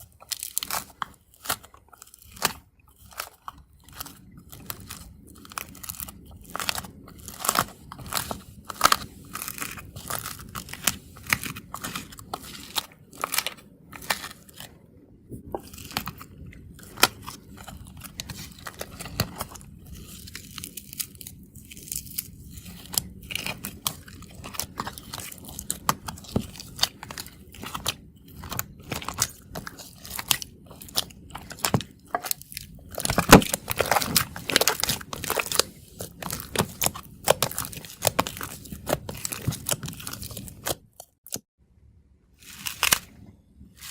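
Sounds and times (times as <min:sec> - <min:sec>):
slime crust crunching and crackling: 0:00.0 - 0:14.8, 0:15.4 - 0:41.5, 0:42.4 - 0:43.9.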